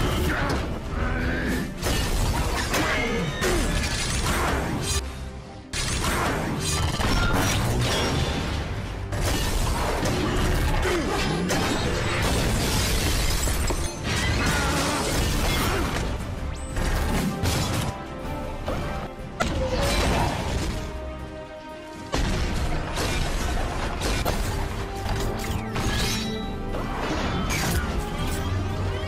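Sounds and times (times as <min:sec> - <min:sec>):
action music: 0:00.0 - 0:29.0.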